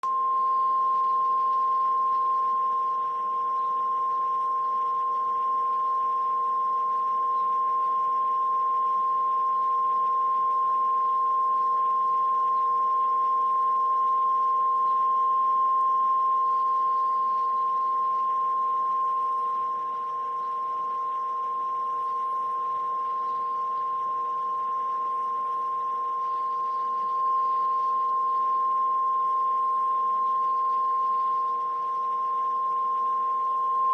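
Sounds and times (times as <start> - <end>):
electronic test tone: 0.0 - 33.9.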